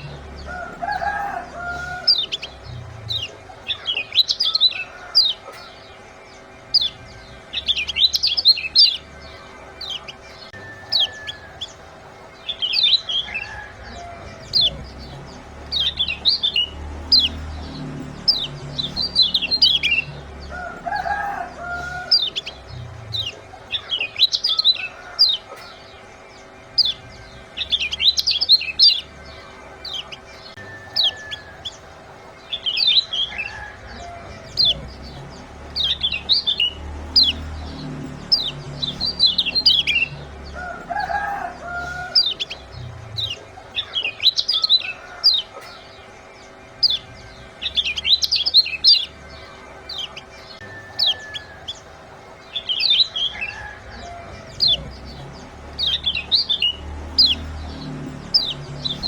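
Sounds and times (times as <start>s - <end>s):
rapid high bird chirps: 0.0s - 59.0s.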